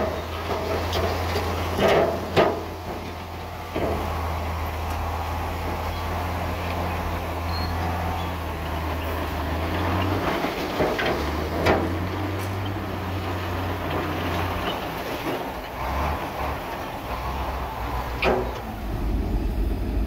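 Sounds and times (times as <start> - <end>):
diesel machinery droning: 0.0 - 20.0.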